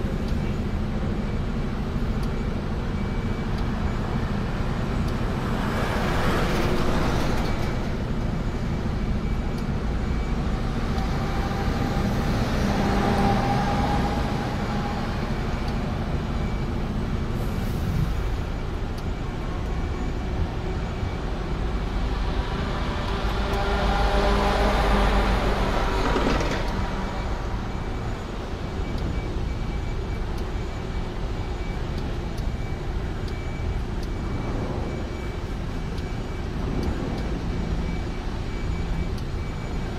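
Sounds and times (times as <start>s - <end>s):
road and traffic noise: 0.0s - 39.9s.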